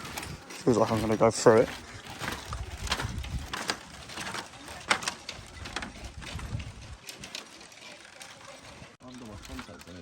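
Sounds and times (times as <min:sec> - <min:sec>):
bamboo slats creaking underfoot: 0:00.0 - 0:10.0.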